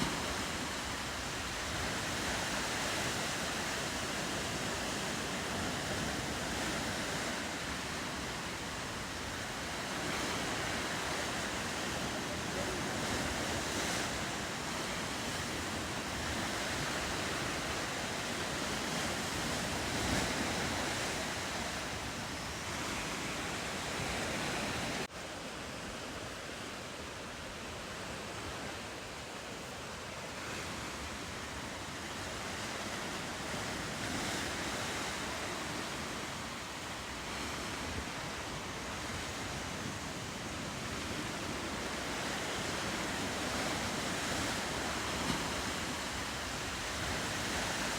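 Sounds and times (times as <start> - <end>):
ocean surf: 0.0 - 47.9
wind: 0.0 - 47.9.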